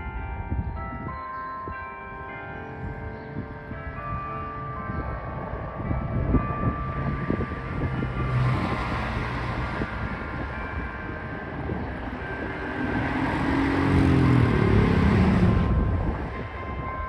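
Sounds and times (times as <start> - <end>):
faint church bells ringing: 0.0 - 17.0
vehicles passing close by: 2.5 - 17.0.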